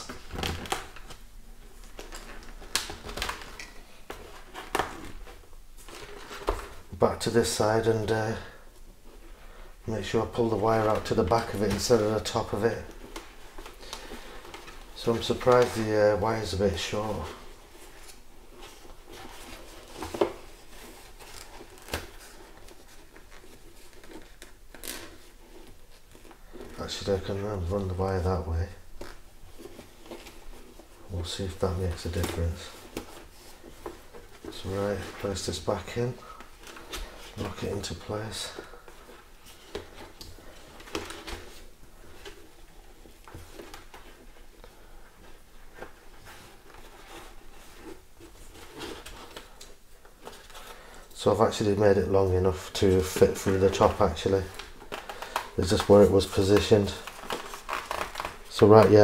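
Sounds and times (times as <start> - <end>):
fabric liner rustling: 0.0 - 59.0.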